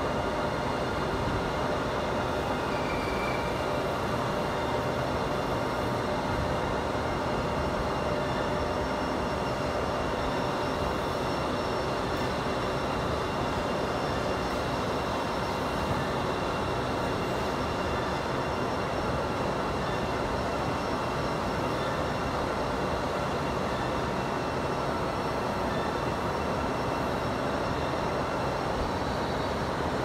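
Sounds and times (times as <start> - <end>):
industrial machinery noise: 0.0 - 30.0.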